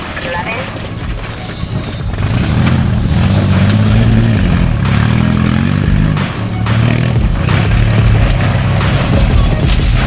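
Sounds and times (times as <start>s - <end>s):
background music: 0.0s - 10.0s
off-road vehicle engine running: 0.0s - 10.0s.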